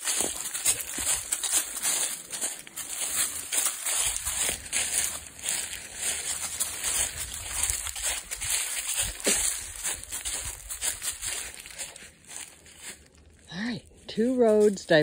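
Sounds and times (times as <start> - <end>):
footsteps through dry leaves: 0.0 - 15.0.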